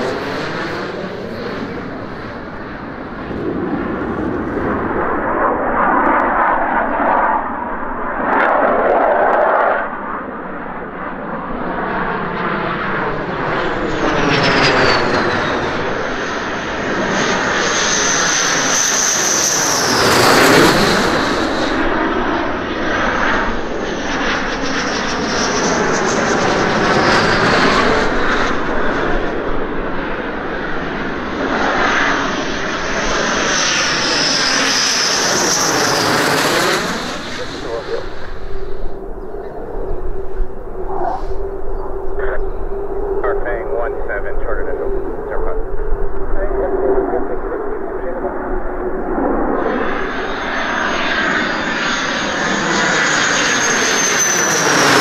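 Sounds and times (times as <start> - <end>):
high jet whine dropping in pitch: 0.0 - 55.0
jet engine noise: 0.0 - 55.0.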